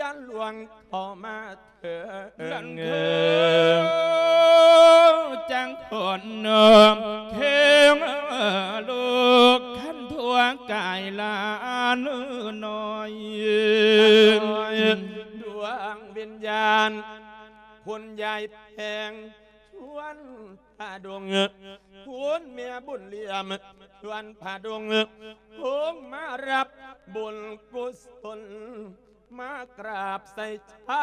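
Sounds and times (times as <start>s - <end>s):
man chanting with vibrato: 0.0s - 31.0s.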